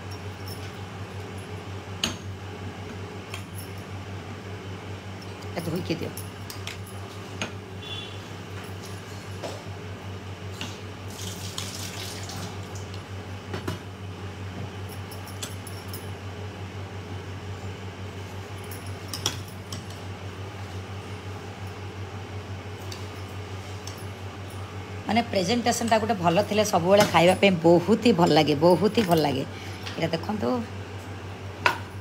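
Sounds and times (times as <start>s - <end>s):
background hum: 0.0s - 32.0s.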